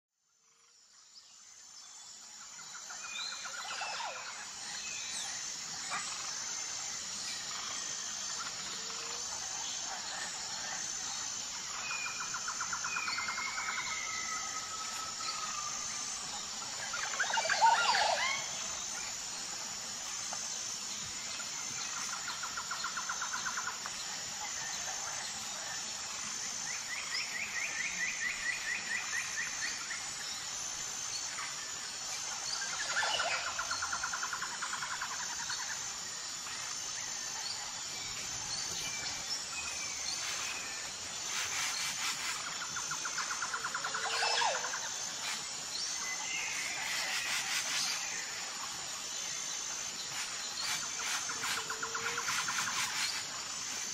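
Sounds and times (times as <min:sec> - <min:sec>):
birds chirping and trilling: 0:01.7 - 0:48.8.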